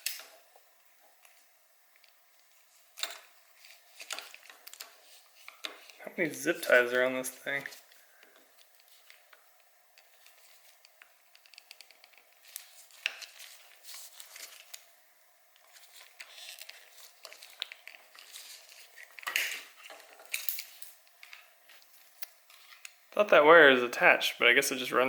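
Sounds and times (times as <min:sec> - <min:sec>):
crinkling and rustling: 0:00.0 - 0:23.3.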